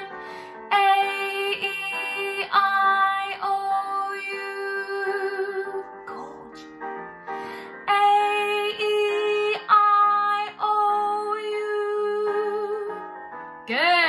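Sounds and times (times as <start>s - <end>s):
backing track music: 0.0s - 14.0s.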